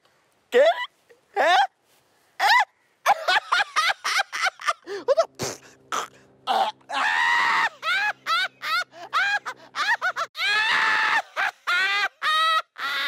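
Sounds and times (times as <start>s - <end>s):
man laughing hysterically: 2.4s - 13.0s.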